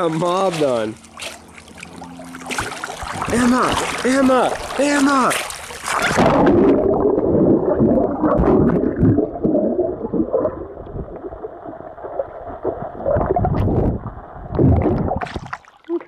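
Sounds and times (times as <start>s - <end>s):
churning water surge: 0.0s - 15.7s
underwater gurgling and bubbling: 1.0s - 15.8s.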